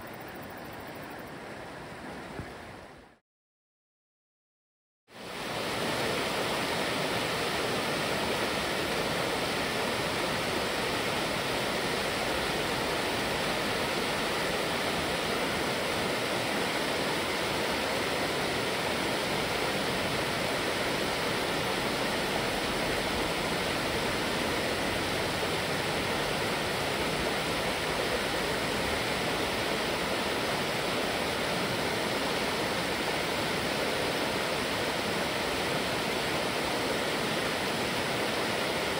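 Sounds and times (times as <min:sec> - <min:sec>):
mountain stream rushing: 0:05.2 - 0:38.9.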